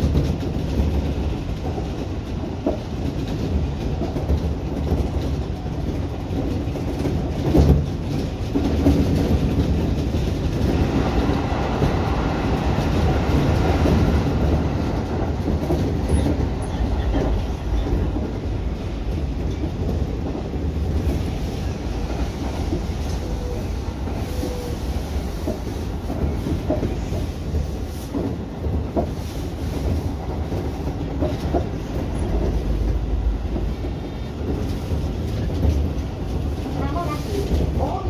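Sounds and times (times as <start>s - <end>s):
rail joint clicks: 0.0s - 38.0s
train wheels rumbling on rails: 0.0s - 38.0s.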